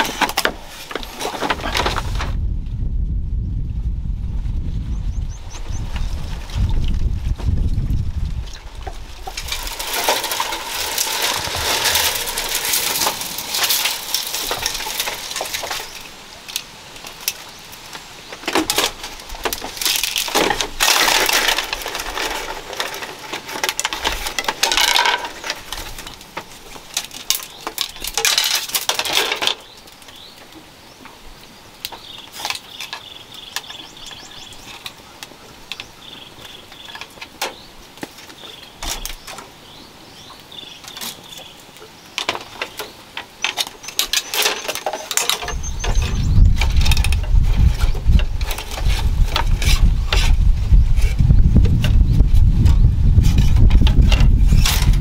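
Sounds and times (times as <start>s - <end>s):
bamboo strips rustling and clicking: 0.0s - 2.4s, 8.4s - 39.6s, 40.3s - 55.0s.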